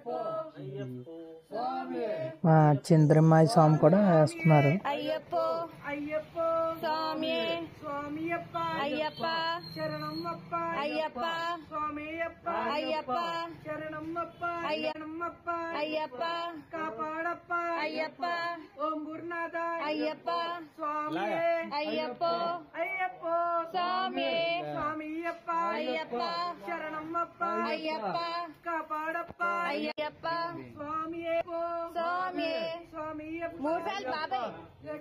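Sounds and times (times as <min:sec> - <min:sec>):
devotional singing: 0:00.0 - 0:02.4, 0:03.6 - 0:35.0.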